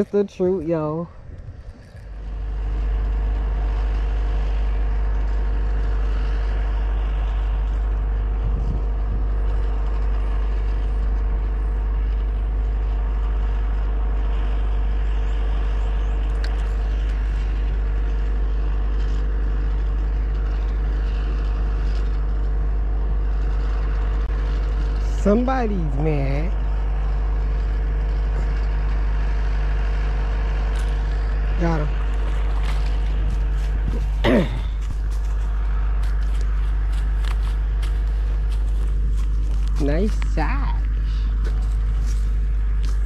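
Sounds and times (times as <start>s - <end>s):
mechanical drone with low rumble: 0.0s - 43.0s.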